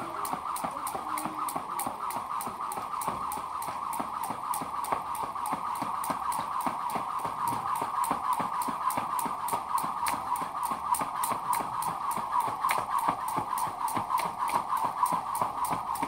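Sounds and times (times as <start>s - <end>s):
continuous background noise: 0.0s - 16.0s
jump rope slapping ground: 0.0s - 16.0s.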